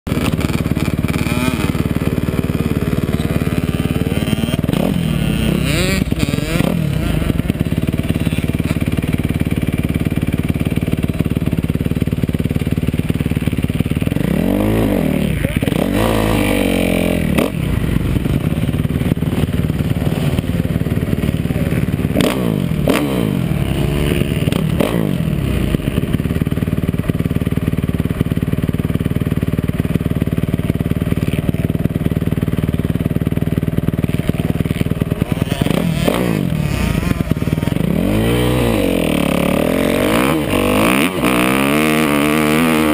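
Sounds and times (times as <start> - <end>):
motocross bike engine revving: 0.1 - 42.9.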